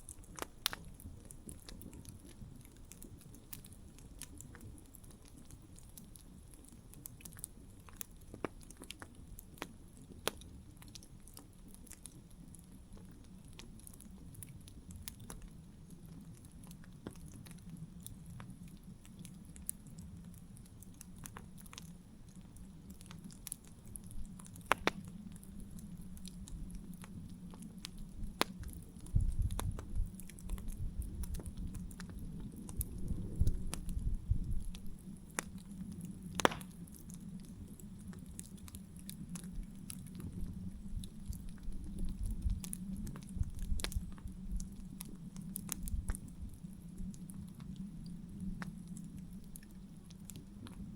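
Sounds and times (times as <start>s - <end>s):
campfire crackling and popping: 0.0s - 50.9s
low fire rumble: 0.0s - 50.9s.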